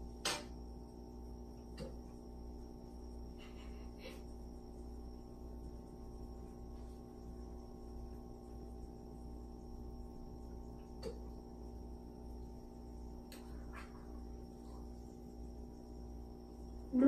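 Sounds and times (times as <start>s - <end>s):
aquarium equipment hum: 0.0s - 17.0s
bubbling filter: 0.0s - 17.0s
faint high whine: 0.0s - 17.0s.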